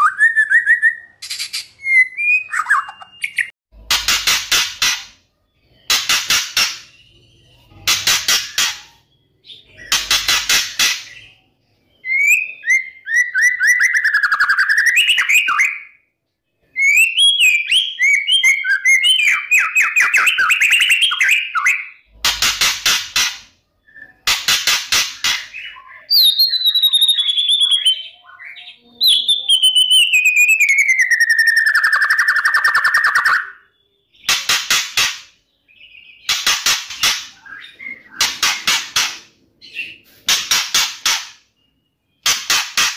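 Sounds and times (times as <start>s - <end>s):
bird singing with rattles and trills: 0.0s - 42.9s.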